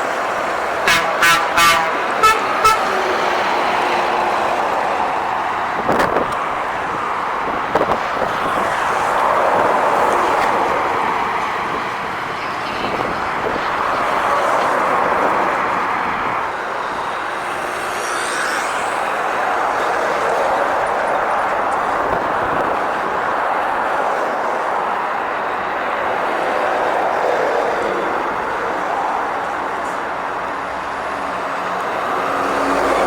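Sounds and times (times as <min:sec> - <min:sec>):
heavy trucks driving past: 0:00.0 - 0:33.0.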